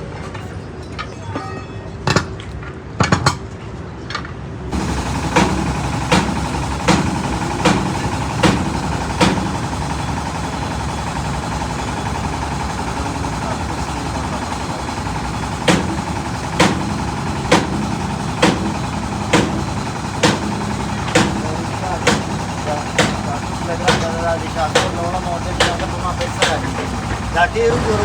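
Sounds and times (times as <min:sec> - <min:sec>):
continuous mechanical hum: 0:00.0 - 0:28.0
hammer striking metal: 0:04.7 - 0:27.3.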